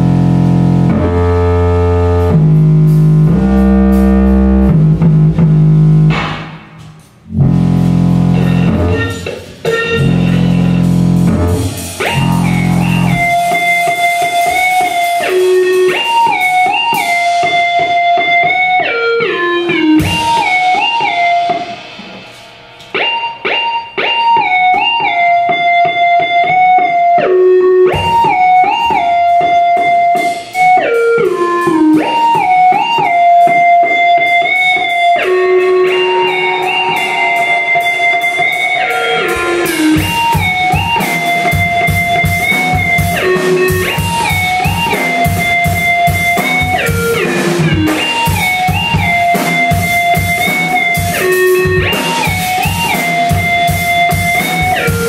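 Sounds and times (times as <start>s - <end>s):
drum kit: 0.0s - 55.0s
electric guitar riff: 0.0s - 55.0s.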